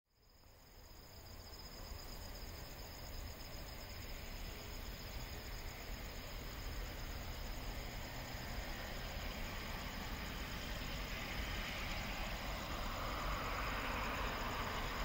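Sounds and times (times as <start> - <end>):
insects chirring: 0.2 - 15.0.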